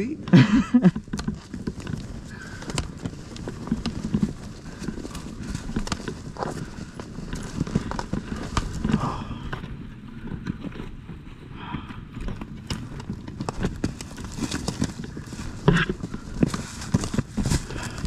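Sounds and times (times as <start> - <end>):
footsteps on rough ground: 0.0 - 18.0
rustling: 0.0 - 18.0.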